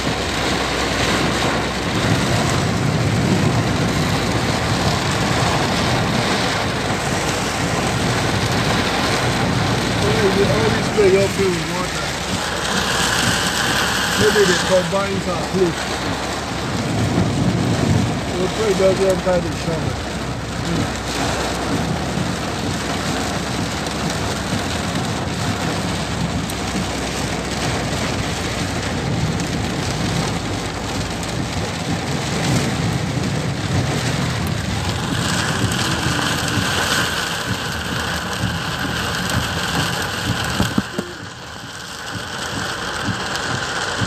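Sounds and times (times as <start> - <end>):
heavy rain on car roof: 0.0 - 44.0
low rumble: 0.0 - 44.0.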